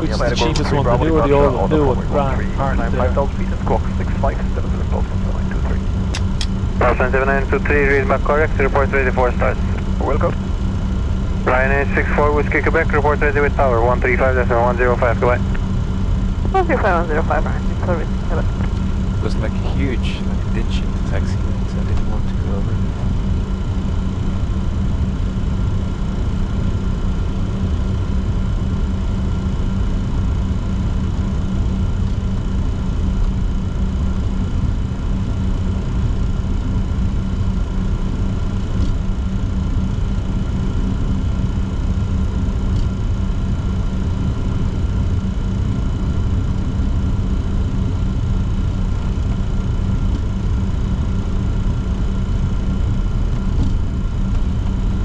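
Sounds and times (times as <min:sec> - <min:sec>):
jet engines idling in cockpit: 0:00.0 - 0:55.0.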